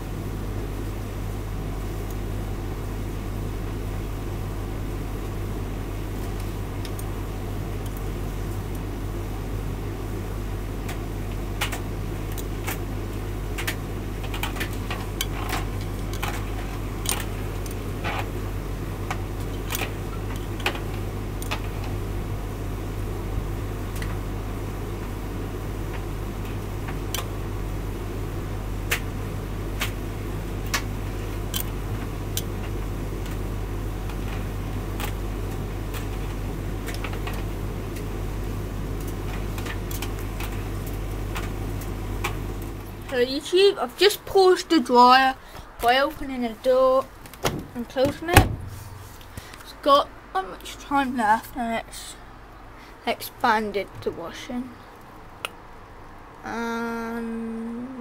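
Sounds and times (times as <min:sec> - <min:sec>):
tumble dryer humming: 0:00.0 - 0:52.1.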